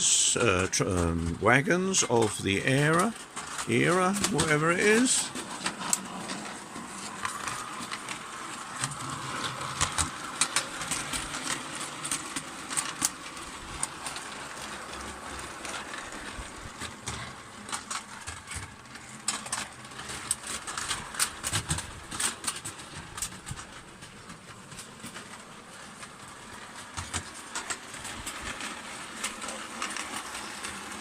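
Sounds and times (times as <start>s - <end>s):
model locomotive whirring: 0.0s - 31.0s
wheels clicking and rattling on rails: 0.0s - 31.0s.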